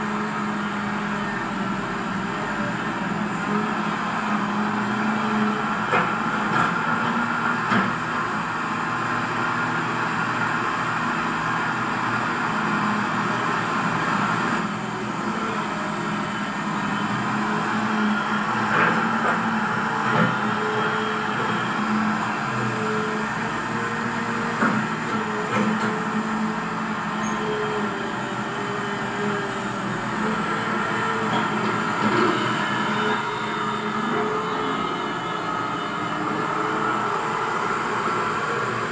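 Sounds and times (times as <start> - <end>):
motor and gear whine: 0.0 - 38.9.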